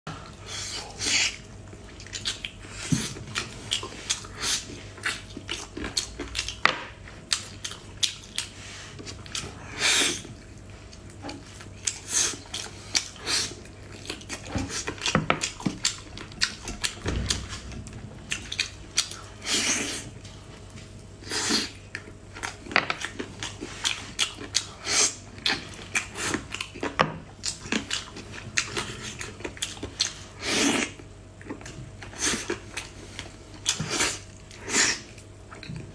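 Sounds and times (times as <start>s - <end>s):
wet chewing and lip smacking: 0.2s - 20.8s, 21.7s - 35.9s.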